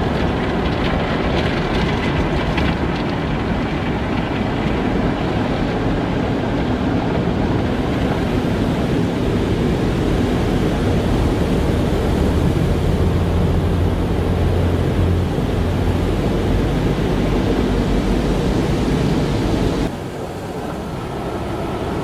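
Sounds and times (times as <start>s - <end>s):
low machinery hum: 0.0s - 22.0s.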